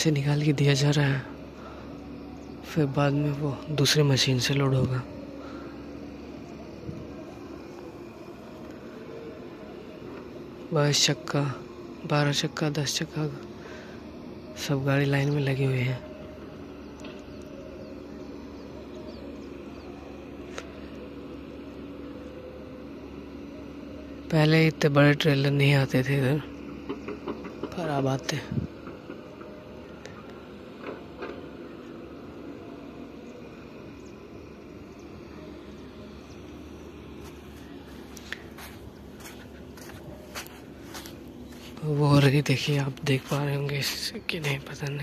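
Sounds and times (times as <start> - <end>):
distant diesel engines rumbling: 0.0 - 45.0
distant heavy machinery drone: 0.0 - 45.0.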